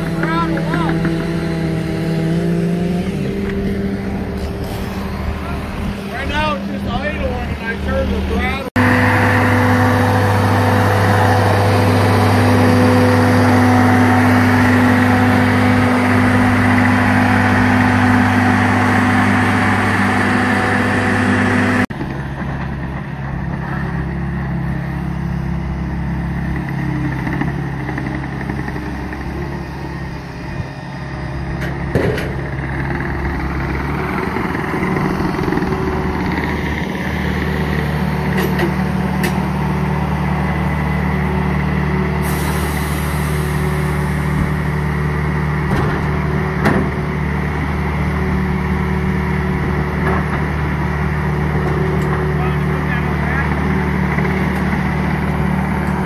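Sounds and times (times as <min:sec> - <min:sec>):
skid steer engine running: 0:00.0 - 0:56.0.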